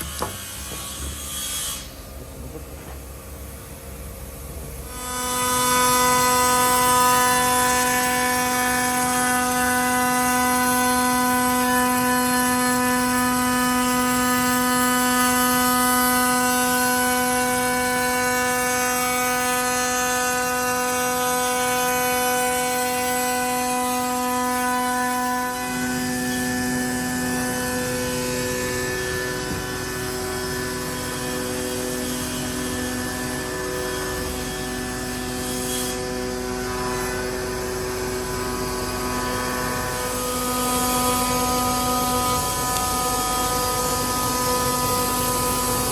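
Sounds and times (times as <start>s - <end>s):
woodworking machine whining: 4.8s - 45.9s.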